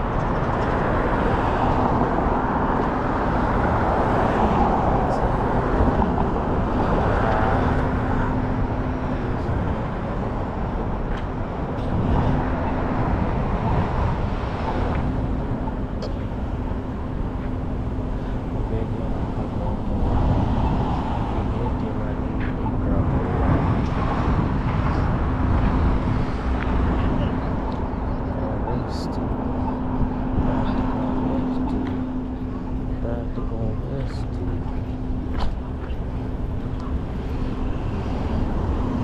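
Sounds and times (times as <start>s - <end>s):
cars driving past: 0.0s - 39.0s
low engine hum: 0.0s - 39.0s.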